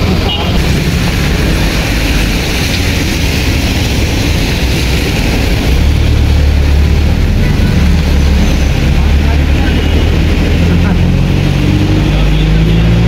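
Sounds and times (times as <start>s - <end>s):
bus engine hum: 0.0s - 13.0s
tyres hissing on wet road: 0.0s - 13.0s.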